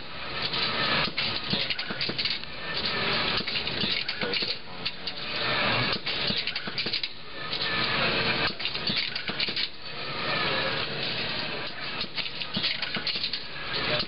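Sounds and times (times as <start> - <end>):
machine clicking and rattling: 0.3 - 9.8, 10.8 - 14.0.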